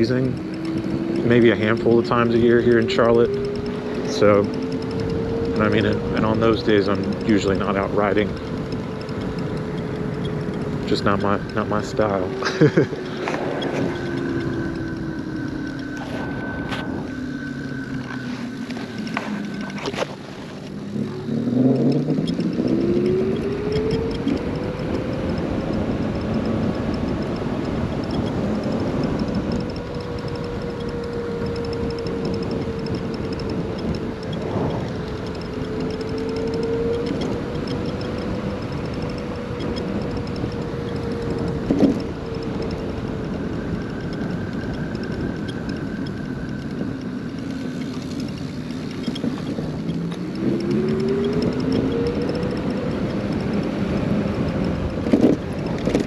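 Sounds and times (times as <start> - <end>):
electric motor whining: 0.0 - 56.0
wind and road noise: 0.0 - 56.0.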